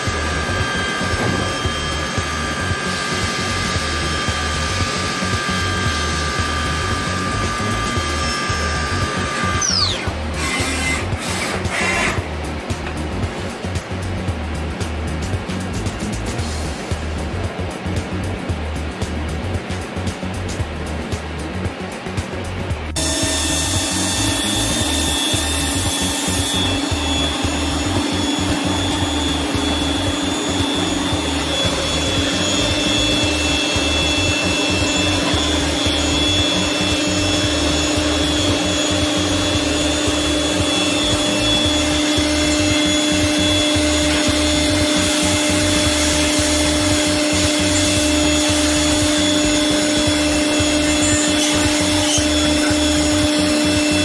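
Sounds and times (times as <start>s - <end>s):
hiss of cutting and coolant: 0.0s - 54.0s
milling spindle whine: 0.0s - 54.0s.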